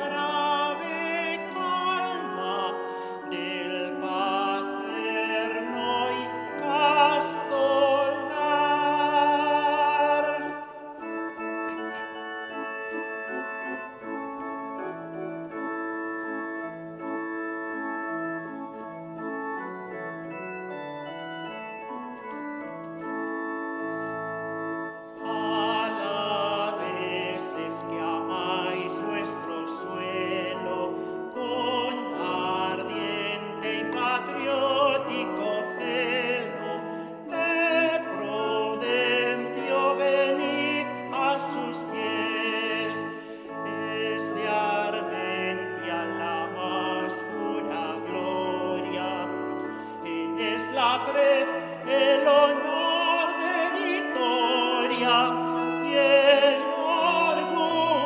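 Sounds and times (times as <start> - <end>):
man singing hymn with vibrato: 0.0 - 17.1, 24.9 - 58.0
organ playing: 0.0 - 58.0.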